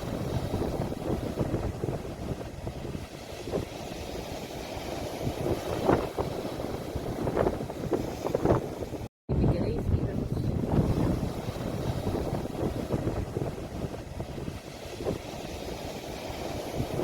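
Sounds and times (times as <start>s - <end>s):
sea waves: 0.0s - 17.0s
wind on microphone: 0.0s - 17.0s.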